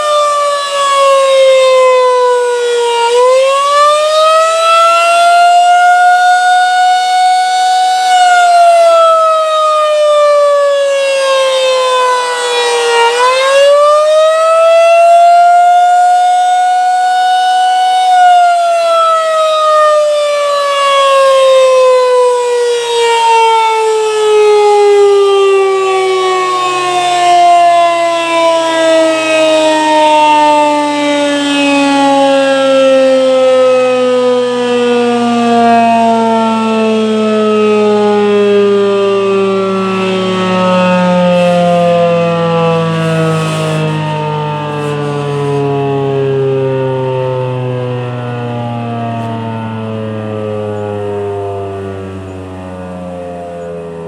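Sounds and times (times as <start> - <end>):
siren winding down: 0.0 - 54.0
warning siren rising and falling: 0.0 - 54.0.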